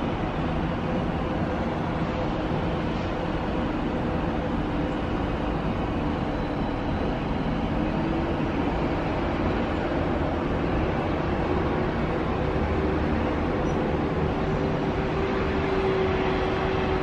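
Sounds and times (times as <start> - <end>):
outdoor rumble and hiss: 0.0 - 17.0.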